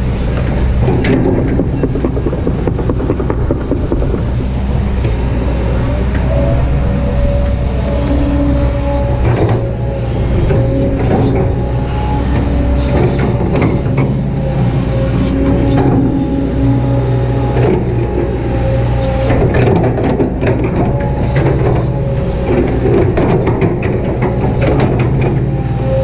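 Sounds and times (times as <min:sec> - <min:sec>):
excavator engine droning: 0:00.0 - 0:26.0
knocks and scraping from machine: 0:00.0 - 0:26.0.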